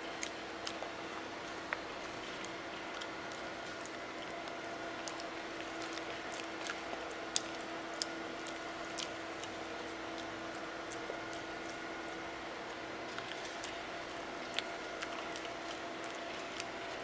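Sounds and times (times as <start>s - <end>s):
background hum: 0.0s - 17.0s
puppy gnawing on chew stick: 0.0s - 17.0s.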